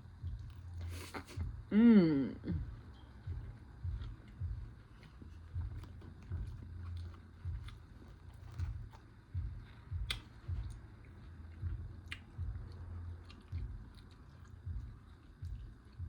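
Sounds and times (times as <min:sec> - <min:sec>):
close chewing with wet smacking: 0:00.1 - 0:01.5, 0:02.9 - 0:16.0.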